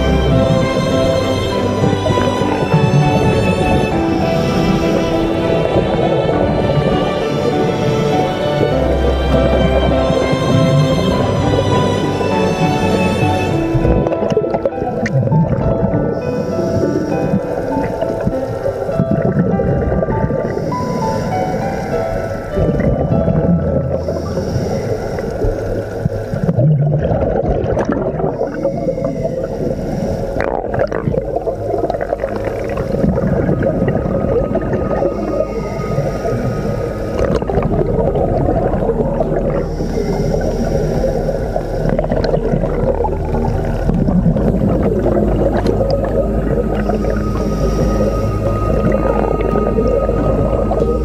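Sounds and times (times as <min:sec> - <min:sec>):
low hum: 0:00.0 - 0:51.0
underwater gurgling rumble: 0:00.0 - 0:51.0.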